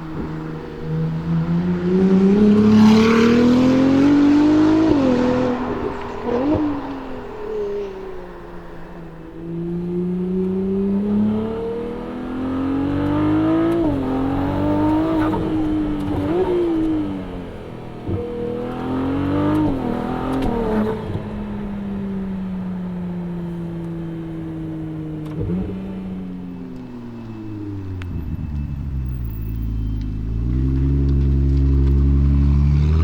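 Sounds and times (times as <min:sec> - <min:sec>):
sports car accelerating hard: 0:00.0 - 0:33.0.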